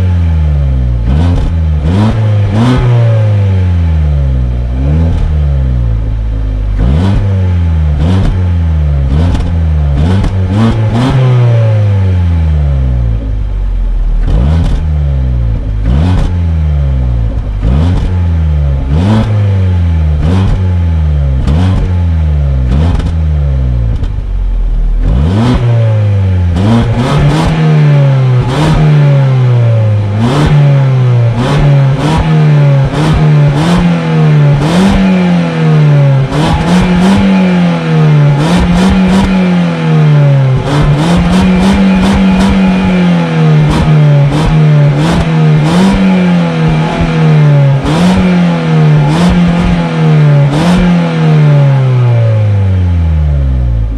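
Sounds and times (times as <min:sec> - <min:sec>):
exhaust cracks: 0:00.0 - 0:52.6
car engine revving: 0:00.0 - 0:53.9.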